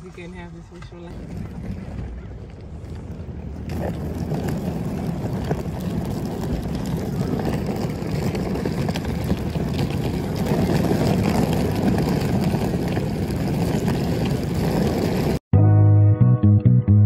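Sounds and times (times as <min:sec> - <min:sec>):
suitcase wheels rolling on asphalt: 0:00.0 - 0:15.4.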